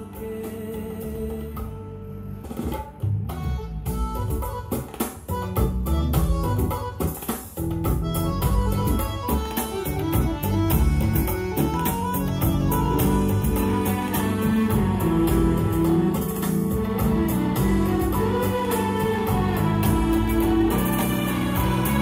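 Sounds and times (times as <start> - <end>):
recorded music through speakers: 0.0 - 22.0.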